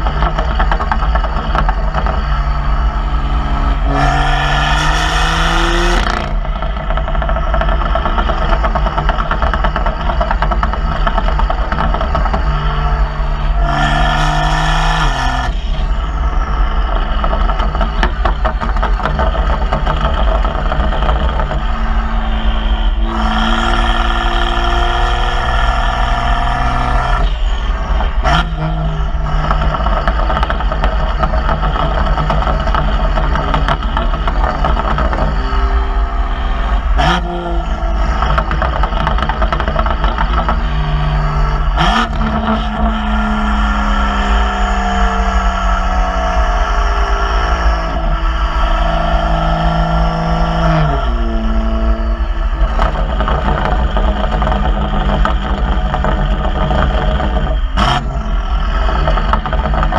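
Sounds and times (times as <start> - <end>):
car engine revving: 0.0 - 59.9
exhaust cracks: 0.0 - 59.9
wind rumble: 0.0 - 59.9.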